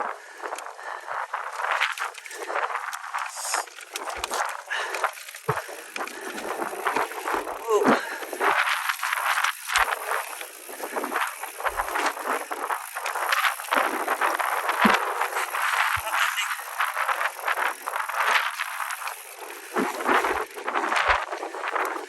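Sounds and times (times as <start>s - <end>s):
heavy breathing: 0.0s - 17.9s
bike tyres on rocky trail: 0.0s - 22.0s.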